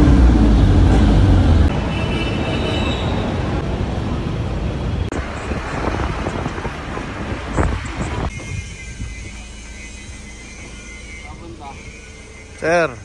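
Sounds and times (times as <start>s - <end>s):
vehicle engine rumble: 0.0s - 2.1s, 3.2s - 13.0s
street traffic: 0.0s - 13.0s.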